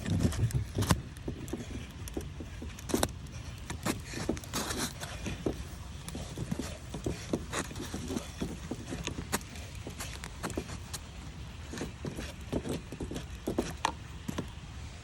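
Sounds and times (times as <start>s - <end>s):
plastic pipe clicking and scraping: 0.0s - 14.6s.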